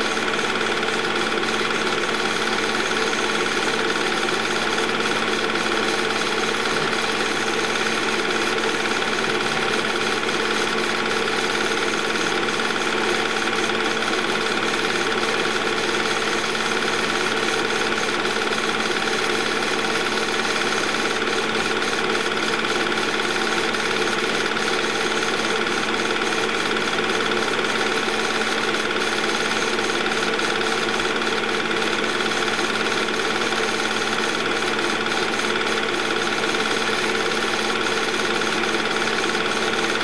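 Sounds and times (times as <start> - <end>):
film projector whirring: 0.0 - 40.0.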